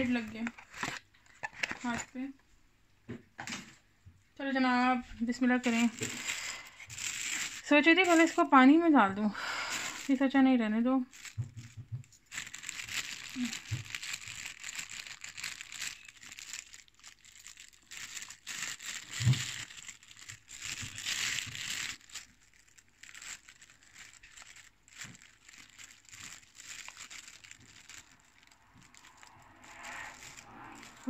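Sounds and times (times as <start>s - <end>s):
plastic bag crinkling: 0.0s - 2.3s, 5.2s - 31.0s.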